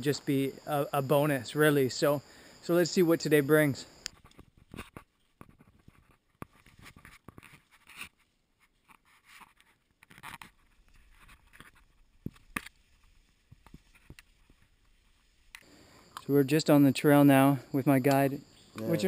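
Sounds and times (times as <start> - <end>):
rustling of grass and leaves: 0.0 - 17.7.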